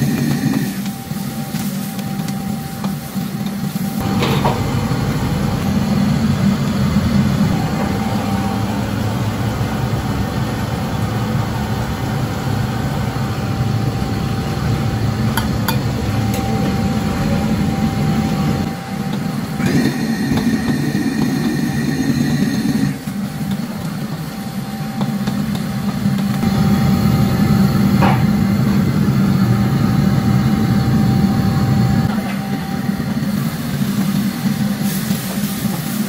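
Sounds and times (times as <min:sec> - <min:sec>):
gas burner rushing: 0:00.0 - 0:36.0.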